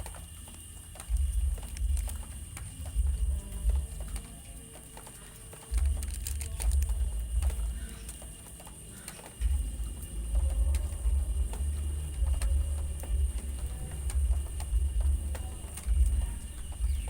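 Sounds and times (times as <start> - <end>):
seeds crackling: 0.0 - 17.0.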